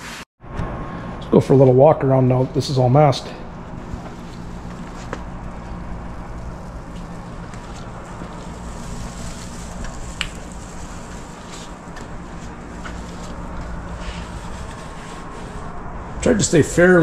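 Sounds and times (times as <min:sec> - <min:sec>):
air noise: 0:00.0 - 0:17.0
low machine hum: 0:00.4 - 0:17.0.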